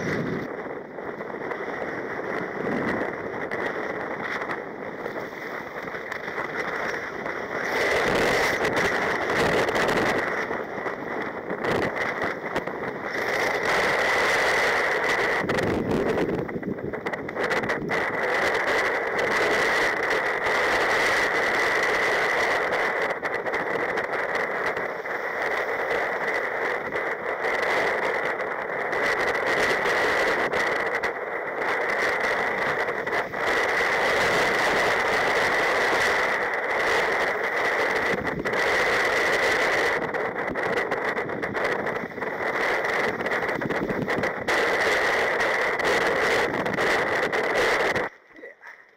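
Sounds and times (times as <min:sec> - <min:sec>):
strong wind rushing: 0:00.0 - 0:48.8
rough sea breaking: 0:00.0 - 0:48.9.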